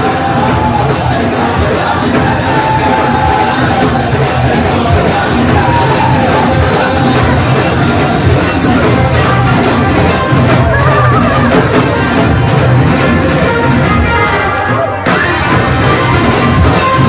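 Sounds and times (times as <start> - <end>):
crowd yelling and cheering: 0.0 - 17.0
dance song with heavy beat: 0.0 - 17.0.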